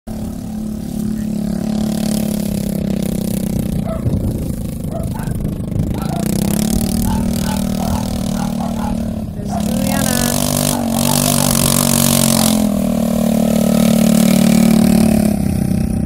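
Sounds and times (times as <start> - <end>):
small engine running: 0.1 - 16.0.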